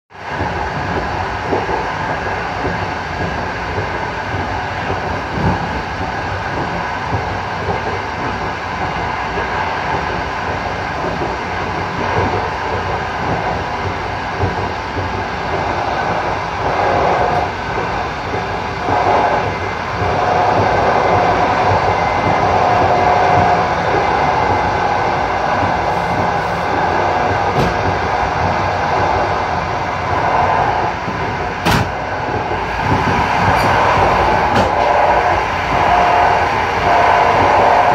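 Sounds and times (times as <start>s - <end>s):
train wheels rumbling on track: 0.1s - 37.9s.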